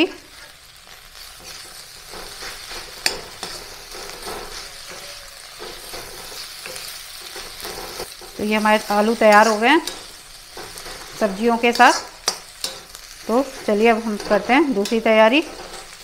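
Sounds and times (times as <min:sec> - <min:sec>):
faint sizzle: 0:00.0 - 0:16.0
spoon scraping through mash: 0:01.4 - 0:16.0.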